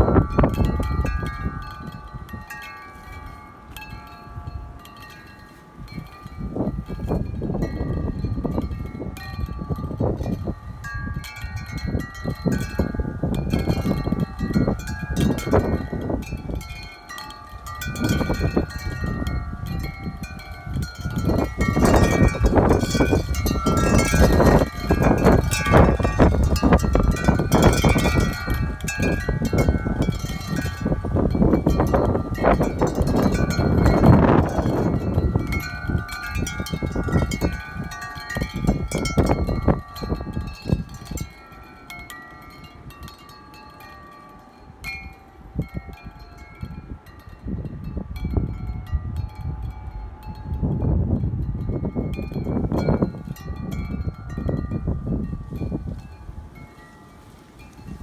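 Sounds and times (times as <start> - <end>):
wind buffeting microphone: 0.0 - 44.1, 44.7 - 58.0
wind chimes ringing: 0.0 - 58.0.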